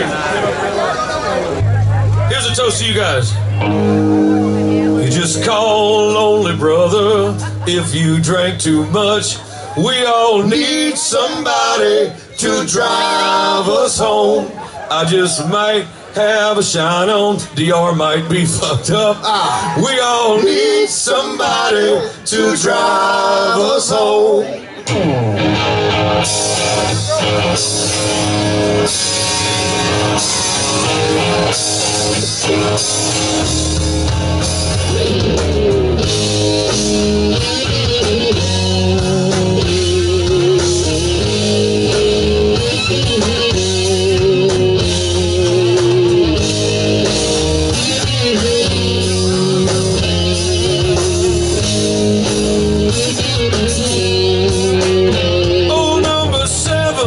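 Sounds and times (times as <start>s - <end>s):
electric guitar lead with bent notes: 0.0s - 14.6s, 24.7s - 57.0s
live rock band playing: 0.0s - 16.7s, 24.8s - 57.0s.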